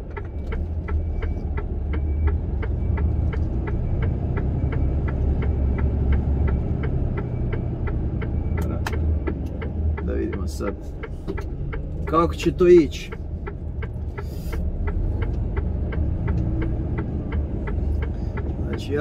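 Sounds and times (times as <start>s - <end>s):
truck diesel engine rumbling: 0.0s - 19.0s
rapid ticking: 0.9s - 19.0s.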